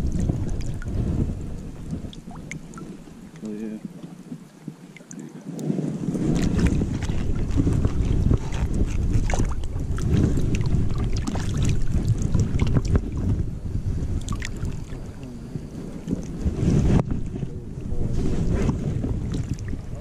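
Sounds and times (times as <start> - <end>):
water splashing around fish: 0.0 - 17.4, 18.2 - 20.0
wind rumble on microphone: 0.0 - 20.0.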